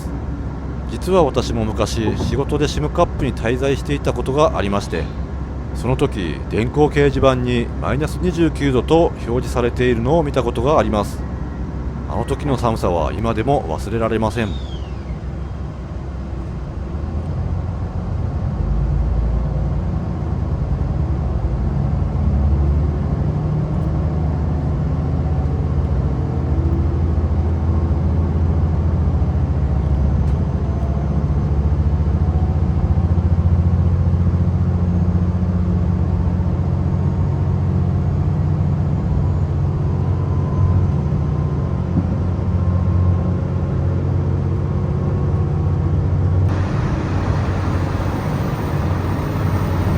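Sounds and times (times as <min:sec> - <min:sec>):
train engine and running gear rumble: 0:00.0 - 0:49.9.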